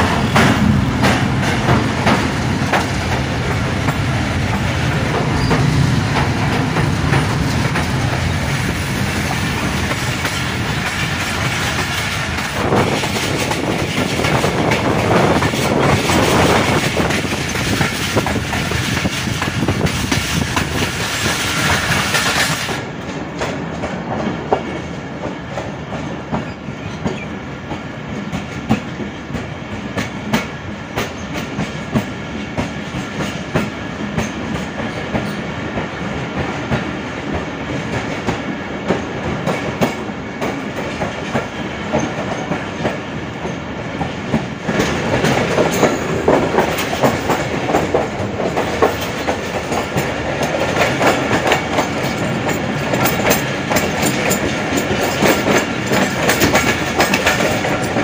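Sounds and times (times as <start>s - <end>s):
train wheels clicking over joints: 0.0s - 58.0s.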